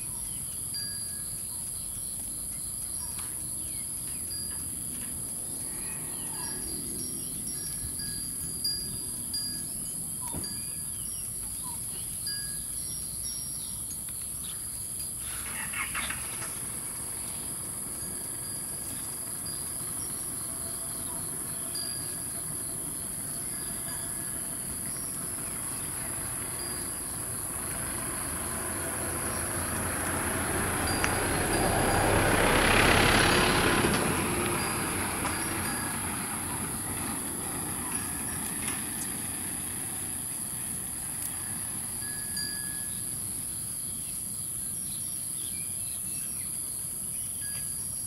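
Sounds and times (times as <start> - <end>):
vehicle approaching: 0.0 - 44.6.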